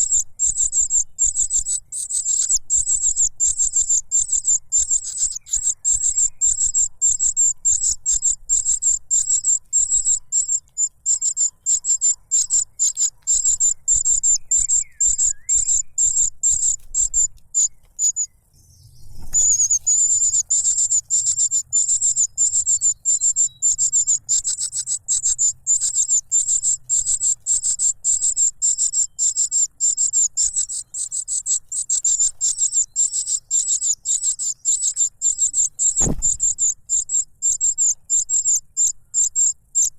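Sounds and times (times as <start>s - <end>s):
chick begging chirps: 0.0s - 18.3s, 19.1s - 39.9s.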